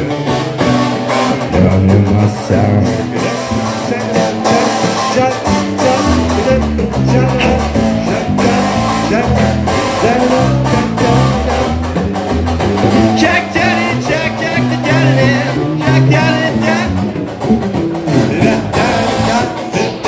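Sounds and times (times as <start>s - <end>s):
guitar: 0.0s - 20.0s
repeating bass line: 0.0s - 20.0s
hand drum beat: 0.1s - 20.0s.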